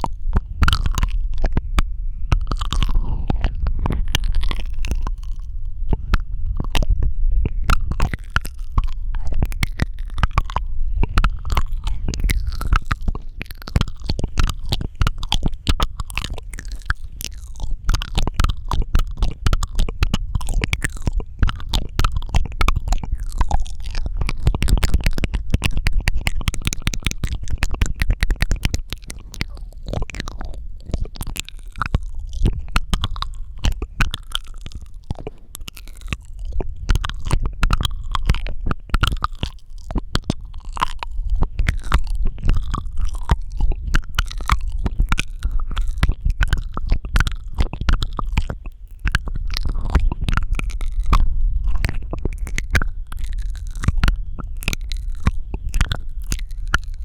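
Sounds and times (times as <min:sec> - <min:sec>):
wet mouth clicks and smacks: 0:00.0 - 0:57.0.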